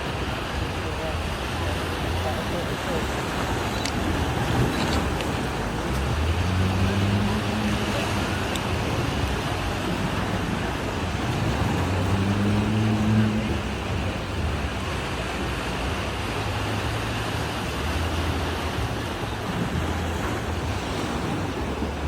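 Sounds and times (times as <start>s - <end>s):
passing vehicle engine hum: 0.0s - 22.0s
surf: 0.0s - 22.0s
wind: 0.0s - 22.0s.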